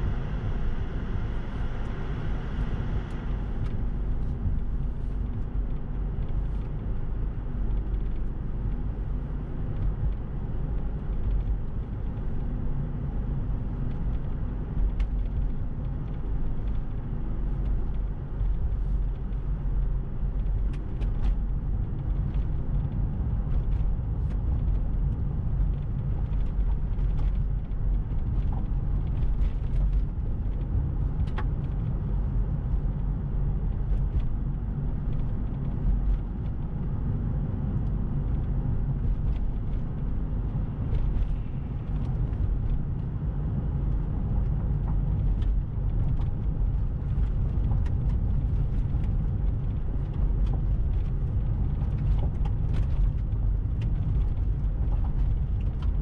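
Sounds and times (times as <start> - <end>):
car tyres and engine rumbling: 0.0 - 56.0.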